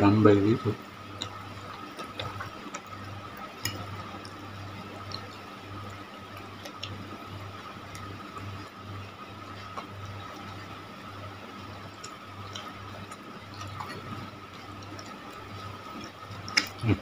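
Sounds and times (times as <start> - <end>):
steady low hum: 0.0 - 17.0
quiet chewing: 1.2 - 8.7, 9.5 - 10.7, 11.8 - 17.0.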